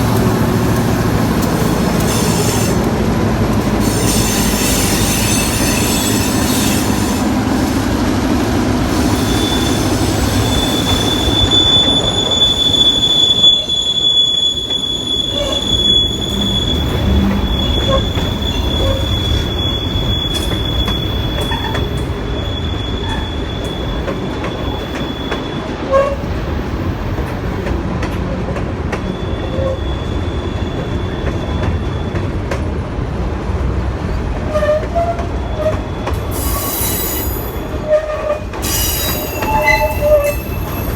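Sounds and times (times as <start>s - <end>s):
freight train rumbling past: 0.0s - 40.9s
steel wheels squealing: 1.6s - 2.9s, 3.7s - 7.8s, 8.8s - 27.2s, 28.2s - 32.3s, 34.5s - 40.9s.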